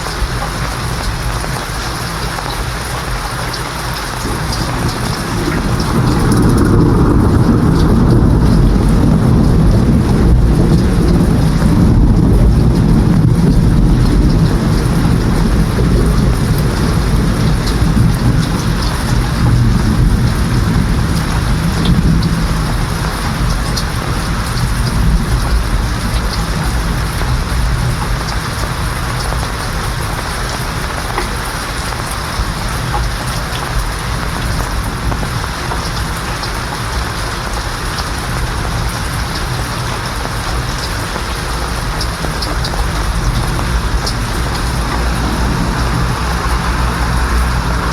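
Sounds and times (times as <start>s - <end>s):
heavy rain: 0.0s - 47.9s
rolling thunder: 0.0s - 47.9s.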